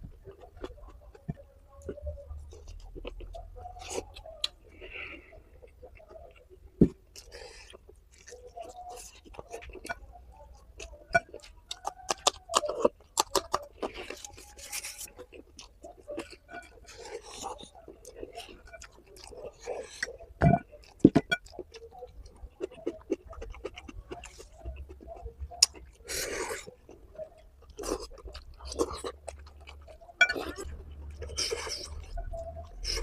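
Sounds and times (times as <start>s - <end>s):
wet chewing and lip smacks: 0.0s - 33.0s.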